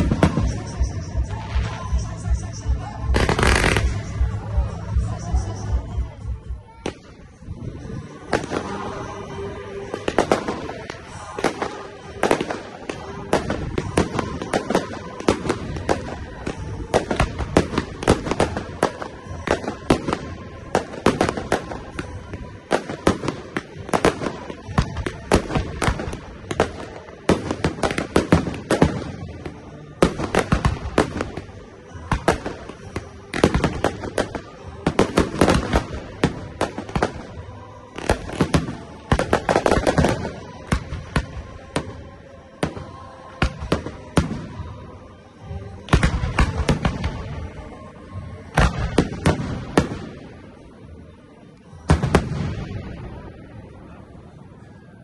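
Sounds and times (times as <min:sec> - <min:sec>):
fireworks bursting and crackling: 0:00.0 - 0:54.2.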